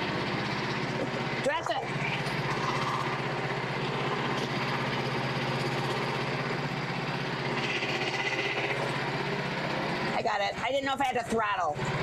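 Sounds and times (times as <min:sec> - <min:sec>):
small gasoline engine running: 0:00.0 - 0:12.0.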